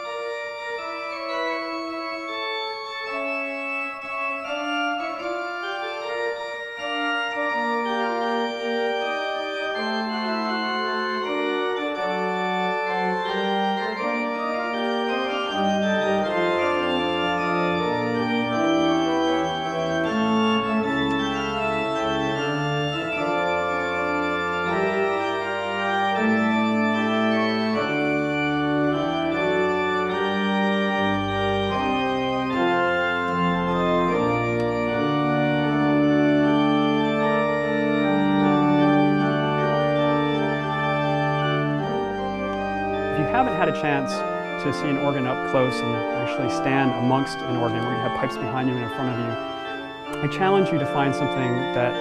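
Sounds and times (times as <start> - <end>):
pipe organ playing: 0.0 - 52.0.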